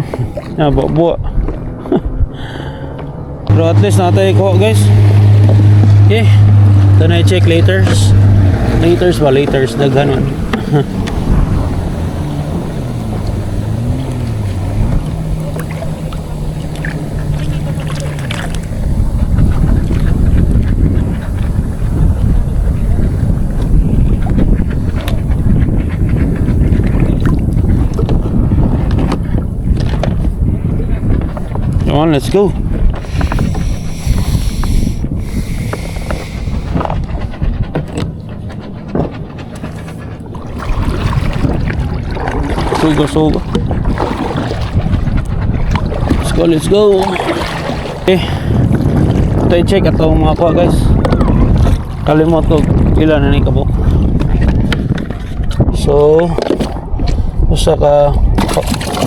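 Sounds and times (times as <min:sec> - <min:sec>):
boat engine droning: 0:00.0 - 0:59.0
water noise: 0:00.0 - 0:59.0
wind: 0:00.0 - 0:59.0.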